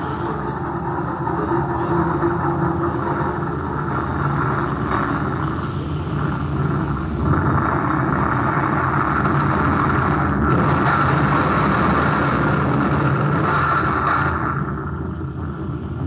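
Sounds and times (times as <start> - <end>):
deep rumble: 0.0 - 15.8
thin high whine: 0.0 - 16.0.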